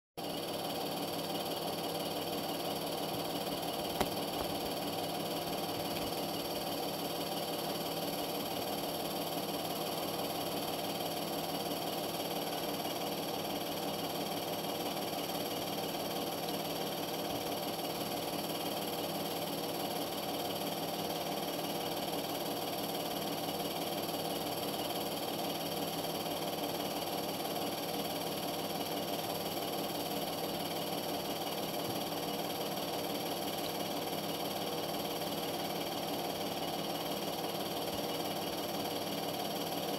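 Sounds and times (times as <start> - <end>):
machine hum with hiss: 0.2 - 39.9.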